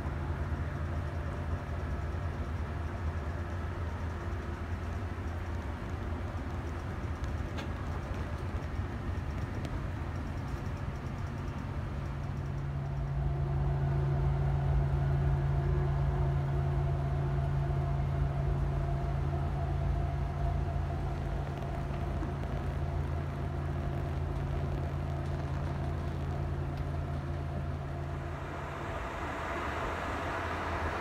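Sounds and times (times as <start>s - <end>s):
train cabin hum and rumble: 0.0s - 31.0s.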